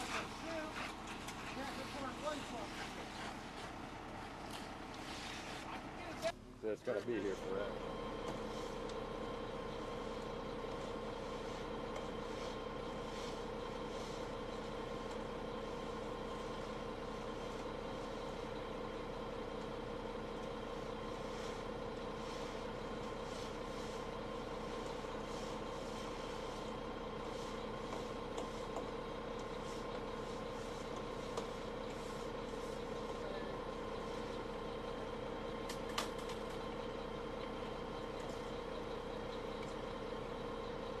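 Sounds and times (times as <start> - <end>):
concrete mixer truck engine: 0.0 - 41.0.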